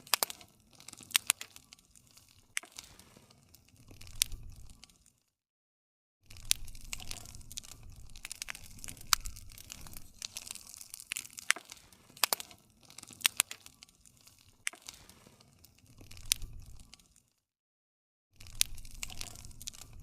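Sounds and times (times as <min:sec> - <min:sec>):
wood crackling and popping: 0:00.0 - 0:05.4, 0:06.2 - 0:17.4, 0:18.4 - 0:20.0.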